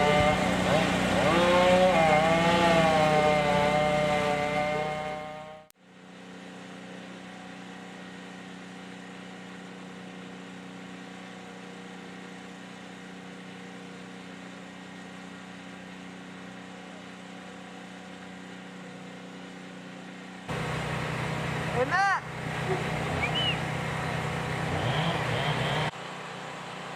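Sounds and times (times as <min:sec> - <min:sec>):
motor humming steadily: 0:00.0 - 0:05.1, 0:05.8 - 0:26.9.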